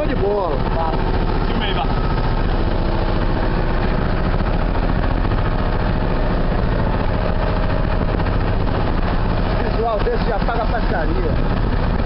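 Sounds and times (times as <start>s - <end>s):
boat engine thumping: 0.0s - 12.0s.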